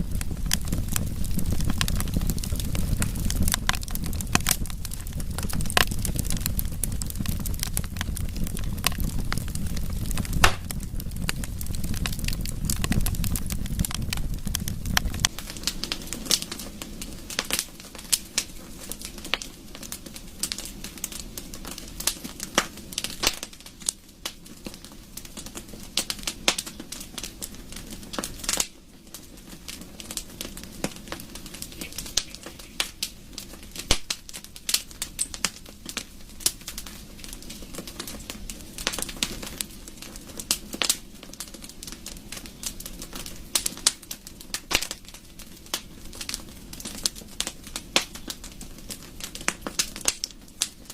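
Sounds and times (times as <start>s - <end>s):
burning wood popping and snapping: 0.0s - 50.9s
rush of flame: 0.0s - 50.9s.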